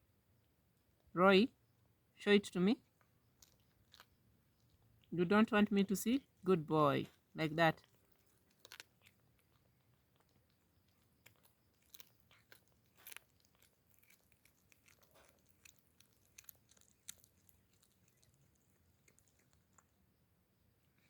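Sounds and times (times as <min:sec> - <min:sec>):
cat chewing and crunching bones: 0:00.0 - 0:21.0.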